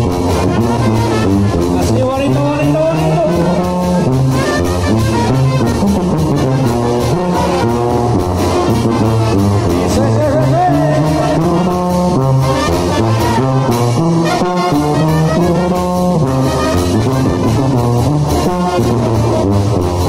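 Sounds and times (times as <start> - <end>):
brass band playing dance music: 0.0 - 20.0
sousaphone bass line: 0.0 - 20.0.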